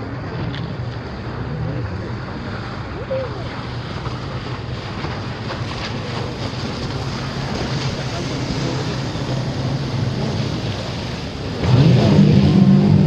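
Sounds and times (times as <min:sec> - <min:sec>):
boat engine humming: 0:00.0 - 0:13.0
water: 0:00.0 - 0:13.0
wind buffeting microphone: 0:00.0 - 0:13.0.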